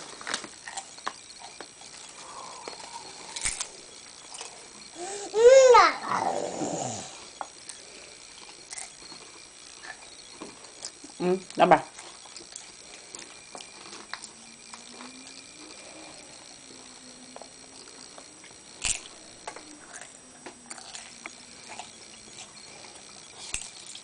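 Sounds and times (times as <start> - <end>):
toddler crunching potato chips: 0.0 - 16.3, 18.8 - 24.0.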